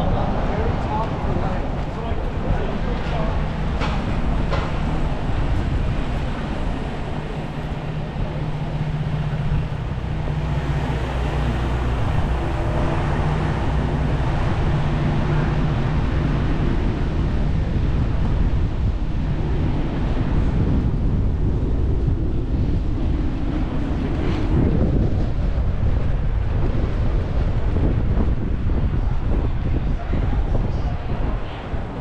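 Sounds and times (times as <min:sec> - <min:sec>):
city street traffic: 0:00.0 - 0:32.0
low engine hum: 0:00.0 - 0:32.0.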